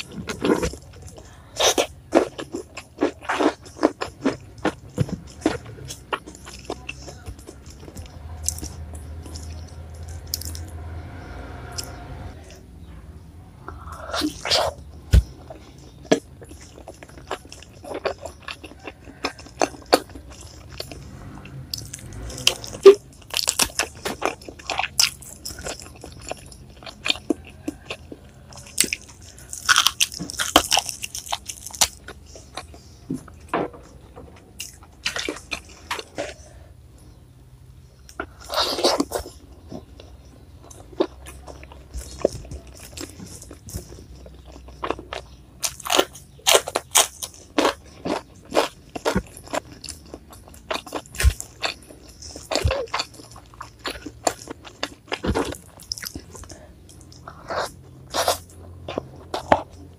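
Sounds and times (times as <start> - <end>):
crunchy bites and chewing: 0.0 - 12.7, 13.7 - 37.2, 37.8 - 59.9.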